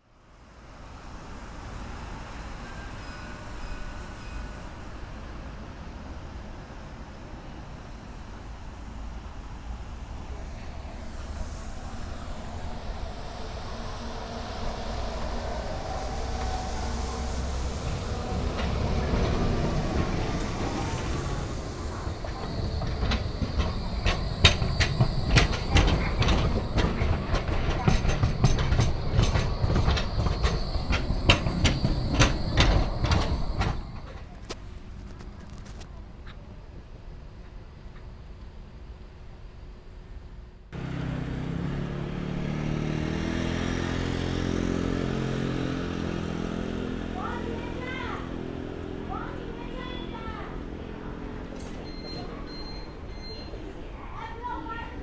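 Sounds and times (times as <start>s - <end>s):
traffic noise: 0.0s - 55.0s
tram rumbling past: 0.0s - 55.0s
wheels clacking on rails: 7.7s - 38.2s, 40.8s - 55.0s
vehicle engine hum: 8.2s - 39.1s, 39.8s - 54.9s.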